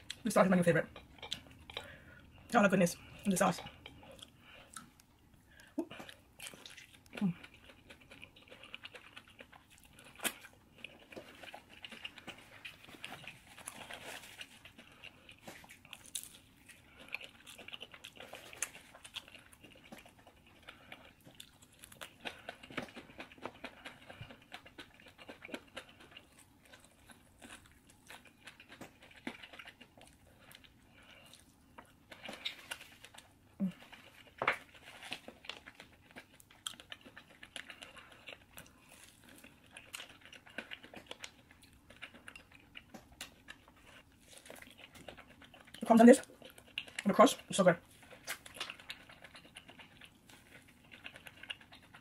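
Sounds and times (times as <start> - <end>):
person chewing chicken wing: 3.1 - 47.1, 47.8 - 52.0.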